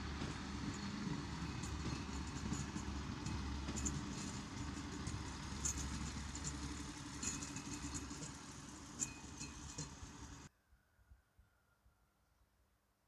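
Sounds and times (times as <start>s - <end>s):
diesel engine humming: 0.0s - 10.5s.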